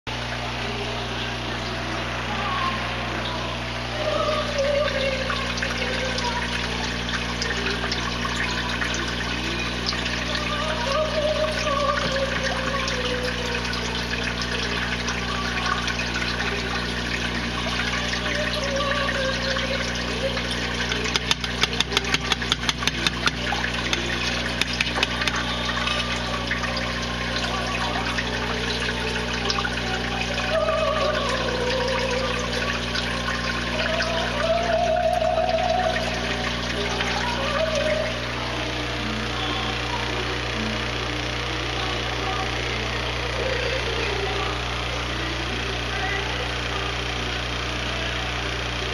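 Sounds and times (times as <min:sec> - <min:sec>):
low hum: 0:00.1 - 0:48.9
water trickling and bubbling: 0:00.1 - 0:48.9.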